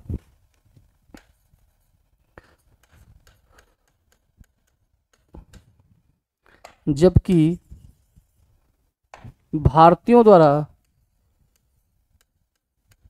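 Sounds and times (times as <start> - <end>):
stylus tapping and scratching screen: 0.1 - 13.0.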